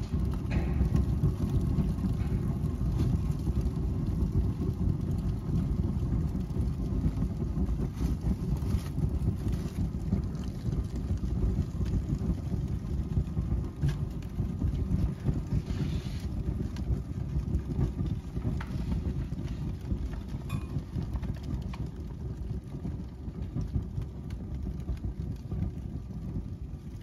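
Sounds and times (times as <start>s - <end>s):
fire burning in a fireplace: 0.0s - 27.0s
sharp crackles of fire: 0.0s - 27.0s.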